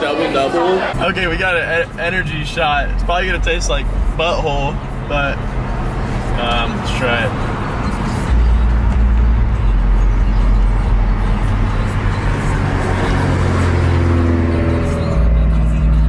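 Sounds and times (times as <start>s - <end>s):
car engine rumble inside cabin: 0.9s - 16.0s.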